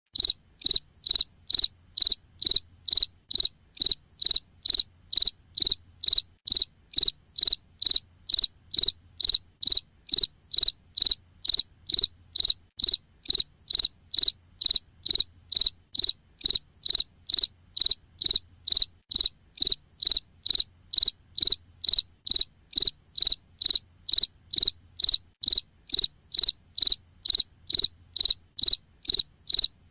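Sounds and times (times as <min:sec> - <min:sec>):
cricket chirping: 0:00.2 - 0:29.9.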